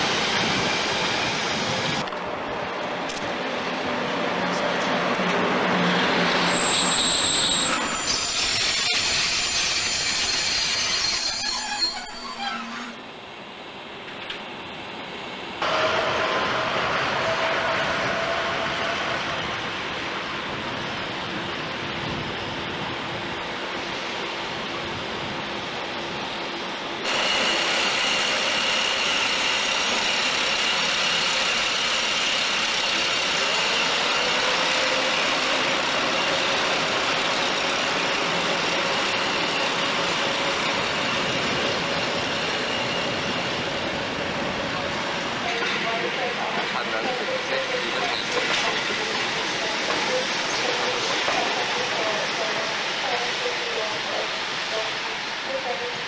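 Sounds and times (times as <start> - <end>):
diesel locomotive running: 0.0 - 56.0
electric locomotive whine: 0.0 - 56.0.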